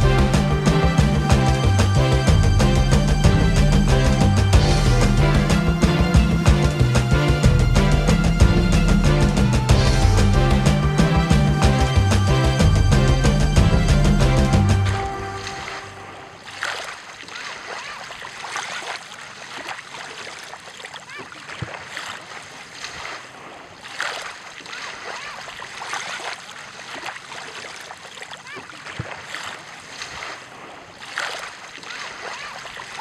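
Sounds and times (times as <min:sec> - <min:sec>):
ocean waves breaking: 0:00.0 - 0:33.0.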